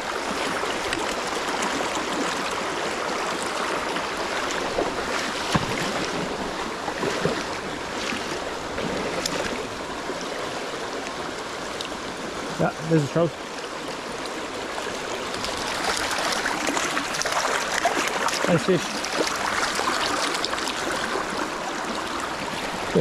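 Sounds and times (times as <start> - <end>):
water rushing over stones: 0.0 - 23.0.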